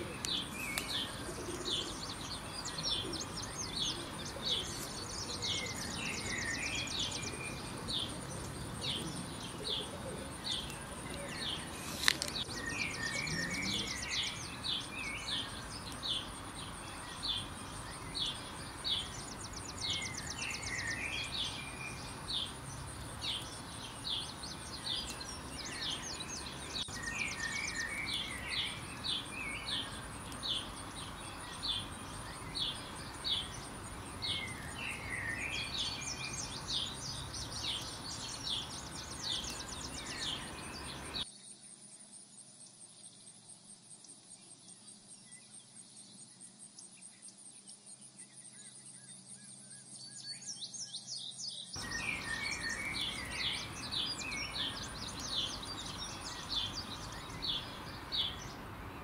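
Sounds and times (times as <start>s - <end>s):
birds warbling: 0.0s - 41.2s, 51.8s - 59.0s
bird chirping: 0.0s - 59.0s.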